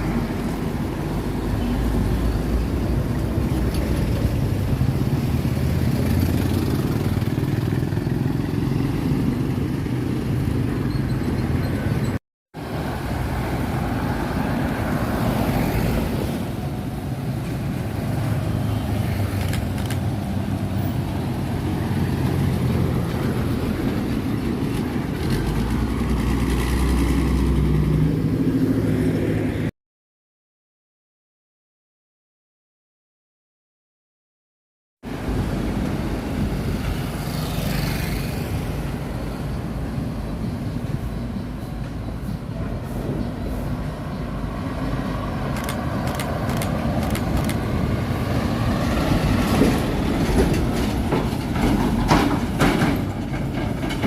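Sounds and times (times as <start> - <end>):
trucks passing: 0.0 - 29.7, 35.0 - 54.0.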